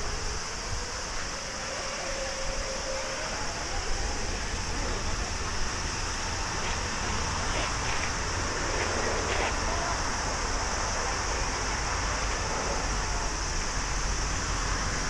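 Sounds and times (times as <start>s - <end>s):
jet engines on takeoff: 0.0s - 15.0s.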